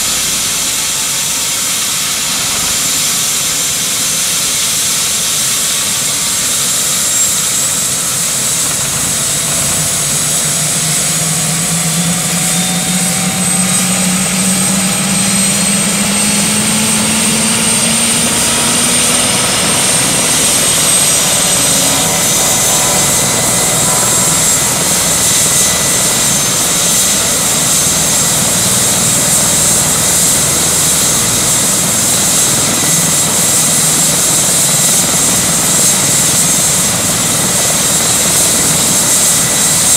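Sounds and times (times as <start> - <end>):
helicopter rotor noise: 0.0 - 39.9
turbine whine: 0.0 - 39.9.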